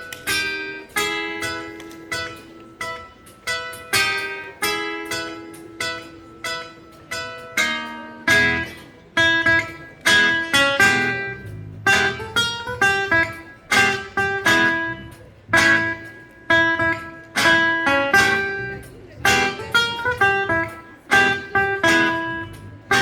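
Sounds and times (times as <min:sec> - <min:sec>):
rock and roll guitars: 0:00.0 - 0:23.0.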